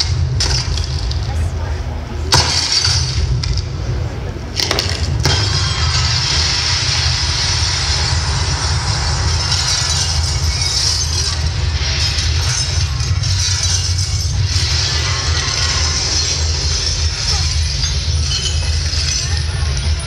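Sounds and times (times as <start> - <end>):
deep rumble: 0.0 - 20.0
glass cracking and shattering: 2.3 - 3.6, 4.6 - 20.0
falling glass shards: 2.3 - 3.7, 4.6 - 20.0.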